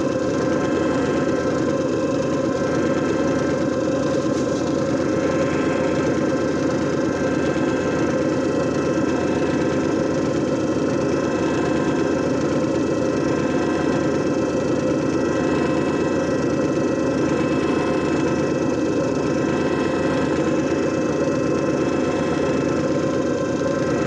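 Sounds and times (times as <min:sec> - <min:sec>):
disc repair machine motor humming: 0:00.0 - 0:24.0.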